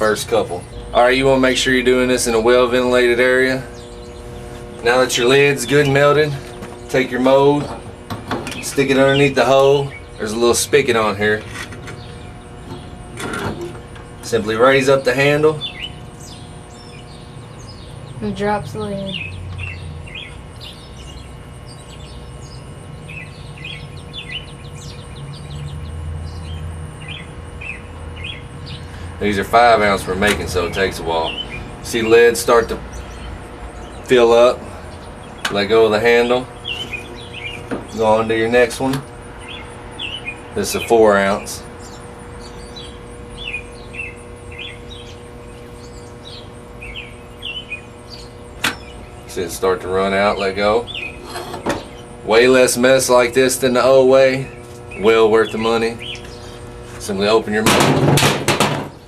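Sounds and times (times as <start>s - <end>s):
low steady rumble: 0.0s - 57.0s
small birds chirping: 0.0s - 57.8s
faint steady hum: 0.0s - 59.0s.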